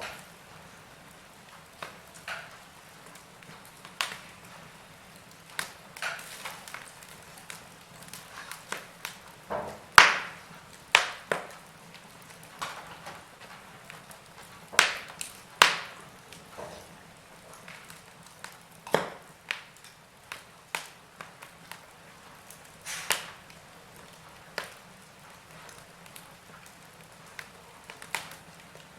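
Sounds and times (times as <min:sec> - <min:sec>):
burning logs popping: 0:00.0 - 0:28.9
wood fire crackling: 0:00.0 - 0:28.9.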